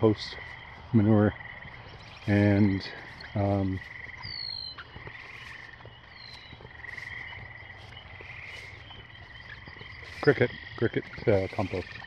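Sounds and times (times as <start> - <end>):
chorus of frogs trilling: 0.0 - 12.0.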